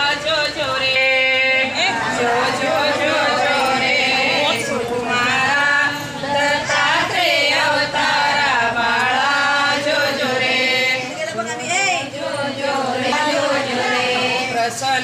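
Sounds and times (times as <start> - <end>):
women singing together: 0.0 - 15.0.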